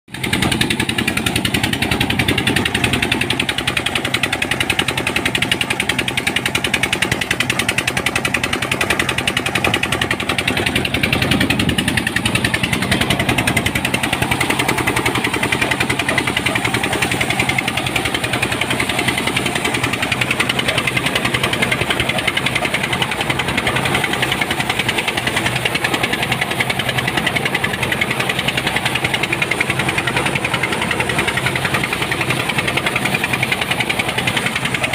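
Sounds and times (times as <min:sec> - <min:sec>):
thresher mechanical chatter: 0:00.1 - 0:34.9.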